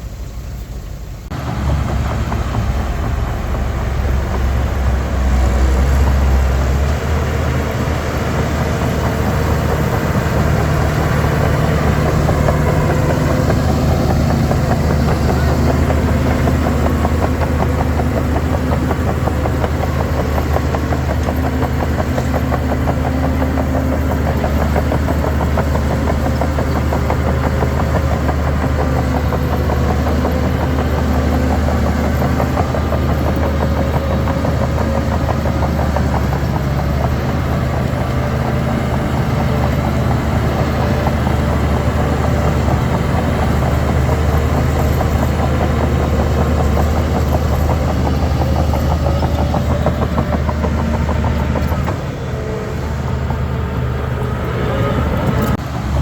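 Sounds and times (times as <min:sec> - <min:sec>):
bulldozer diesel engine rattling: 0:00.0 - 0:56.0.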